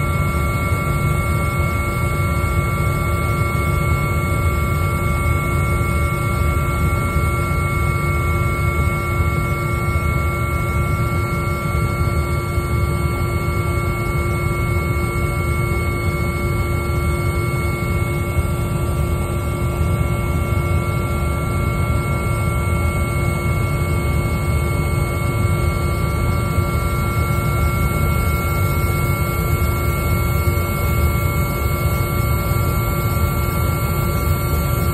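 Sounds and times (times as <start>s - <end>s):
high turbine whine: 0.0s - 34.9s.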